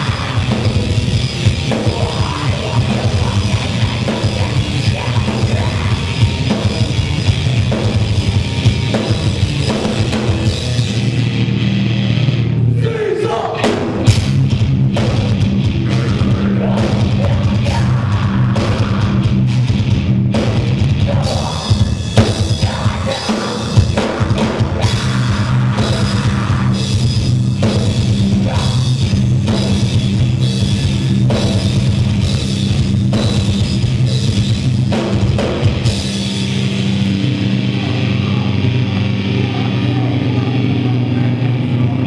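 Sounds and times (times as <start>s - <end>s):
rock band playing: 0.0s - 42.0s.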